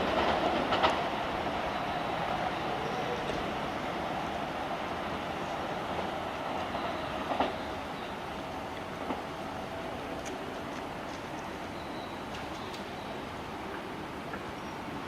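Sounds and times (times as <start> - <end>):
electric train on rails: 0.0 - 15.0.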